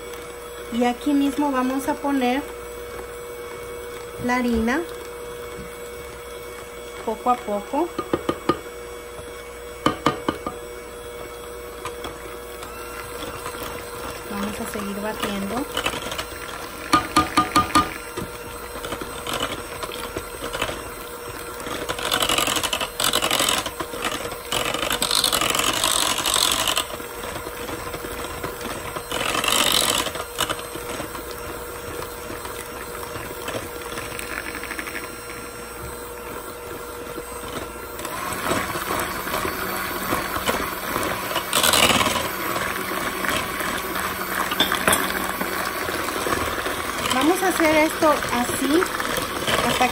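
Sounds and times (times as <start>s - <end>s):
electric hand mixer running: 0.0s - 49.9s.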